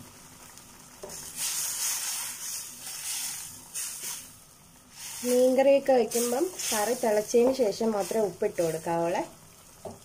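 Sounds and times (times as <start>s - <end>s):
curry boiling in a pot: 0.0s - 10.0s.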